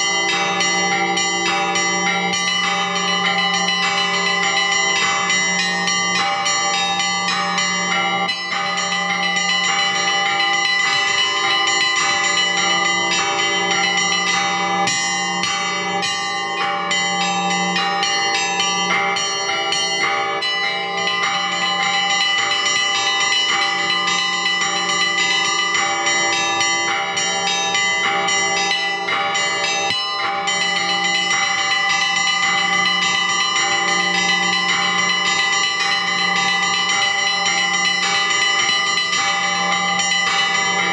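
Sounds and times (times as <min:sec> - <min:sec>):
large bells ringing sustained tones: 0:00.0 - 0:40.9
small bells striking quickly: 0:00.0 - 0:40.9.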